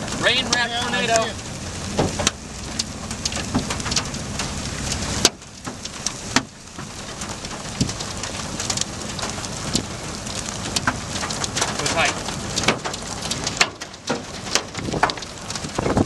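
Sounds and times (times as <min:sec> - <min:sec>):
low rumble: 0:00.0 - 0:13.6
raindrops tapping on vehicle: 0:00.0 - 0:16.0.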